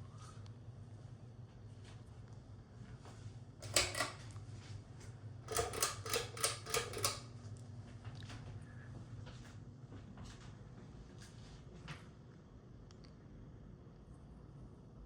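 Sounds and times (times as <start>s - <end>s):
ceiling fan motor humming: 0.0s - 12.6s.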